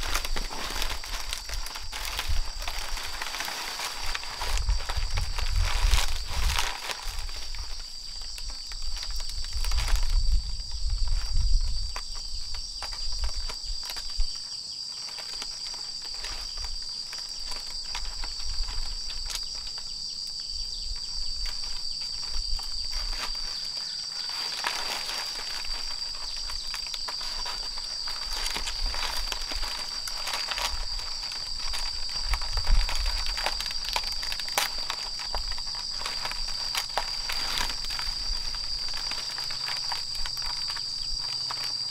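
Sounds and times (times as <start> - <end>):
footstep-like crunches: 0.0 - 41.9
insects droning: 0.0 - 41.9
rustling in vegetation: 0.0 - 41.9.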